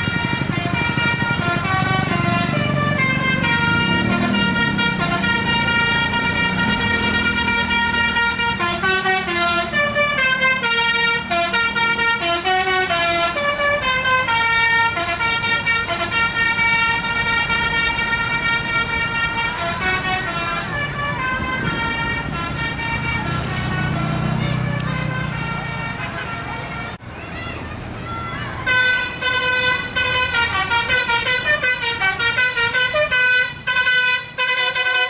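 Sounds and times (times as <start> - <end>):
musical air horn playing a tune: 0.0 - 27.0, 28.7 - 35.0
bus engine running: 0.0 - 35.0.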